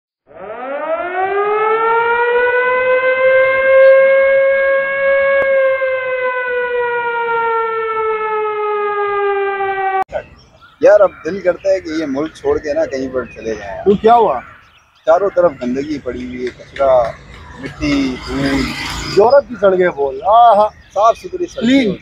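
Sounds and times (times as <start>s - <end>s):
siren wailing: 0.3s - 10.1s, 10.8s - 22.0s.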